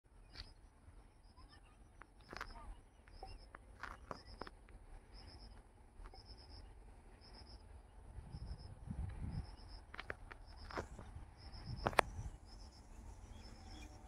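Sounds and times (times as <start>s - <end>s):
insect chirping: 0.1s - 14.0s
low rumble: 2.0s - 14.0s.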